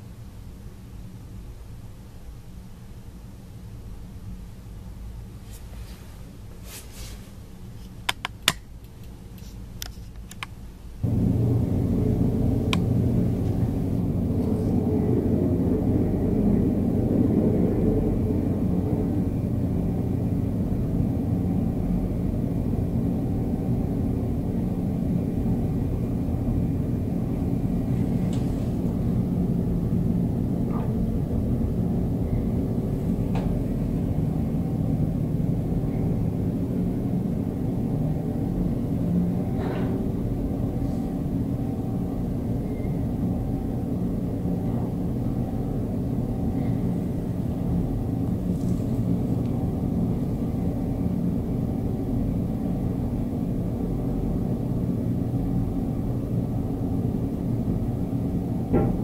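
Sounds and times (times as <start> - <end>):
low rumble with hum: 0.0 - 59.0.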